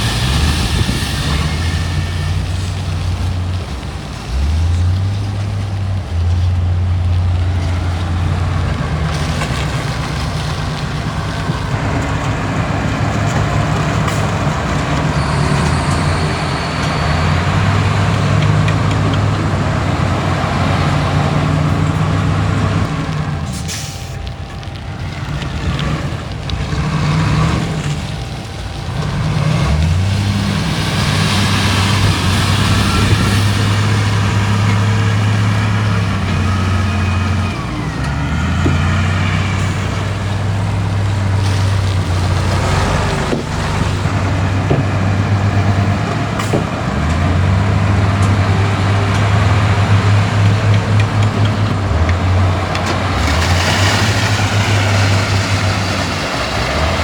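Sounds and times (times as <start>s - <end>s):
heavy diesel machinery working: 0.0s - 57.0s.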